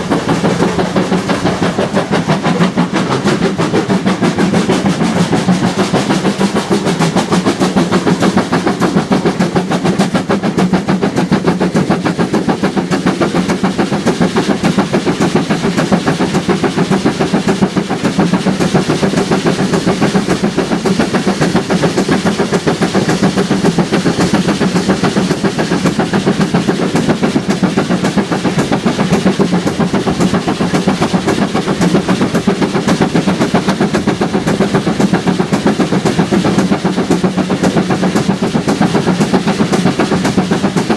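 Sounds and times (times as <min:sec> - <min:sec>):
train rail clatter: 0:00.0 - 0:40.9.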